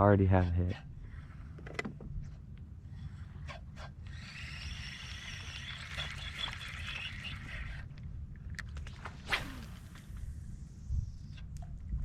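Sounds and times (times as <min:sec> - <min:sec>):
wind rumbling on microphone: 0:00.8 - 0:12.0.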